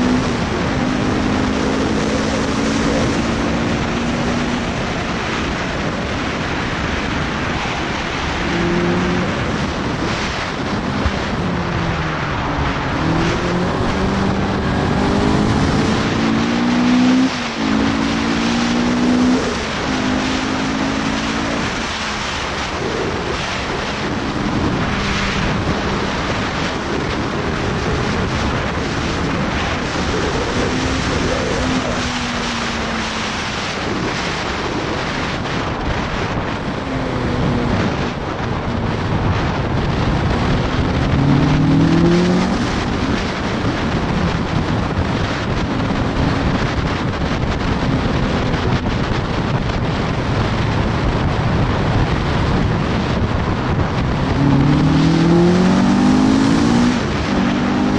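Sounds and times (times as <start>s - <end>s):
car engine running hard: 0.0s - 57.9s
wind rush: 0.0s - 57.9s.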